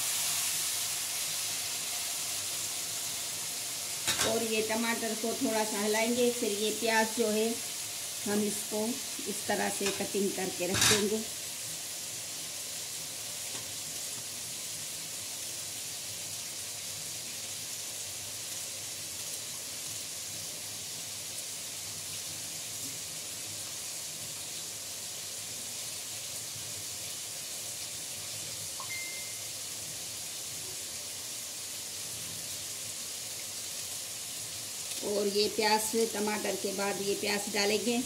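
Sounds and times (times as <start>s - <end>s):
tomatoes sizzling in oil: 0.0s - 38.0s.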